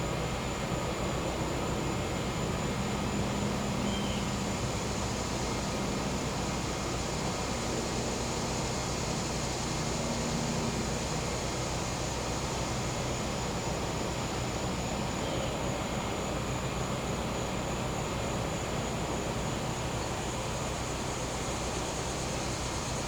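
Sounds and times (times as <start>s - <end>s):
high insect drone: 0.0s - 23.0s.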